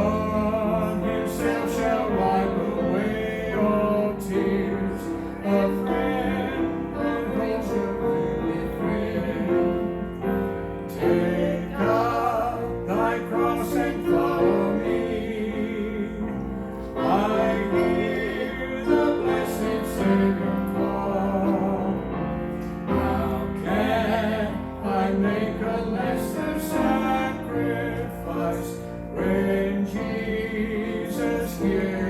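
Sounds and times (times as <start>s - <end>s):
piano accompaniment: 0.0s - 32.0s.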